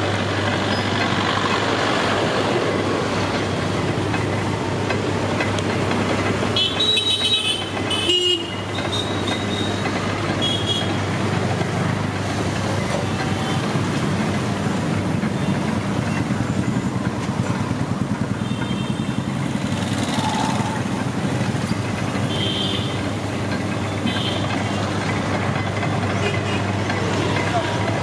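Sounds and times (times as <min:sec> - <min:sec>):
crusher engine humming: 0:00.0 - 0:28.0.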